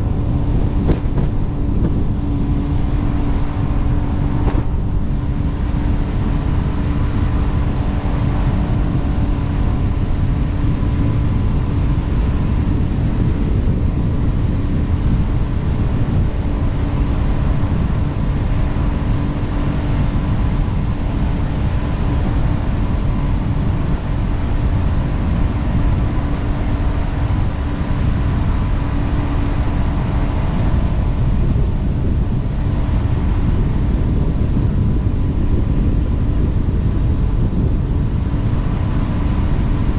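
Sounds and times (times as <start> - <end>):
jet boat engine rumble: 0.0 - 39.9
steady hum: 0.0 - 39.9.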